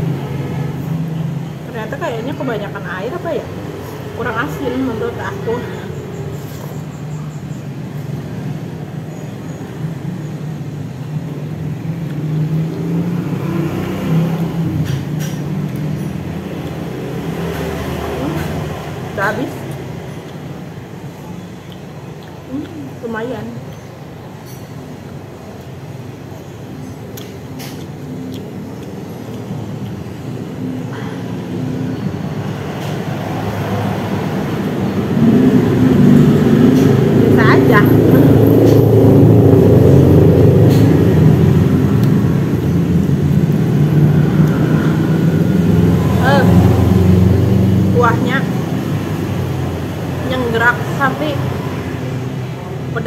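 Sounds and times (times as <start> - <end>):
low engine rumble: 0.0 - 53.0.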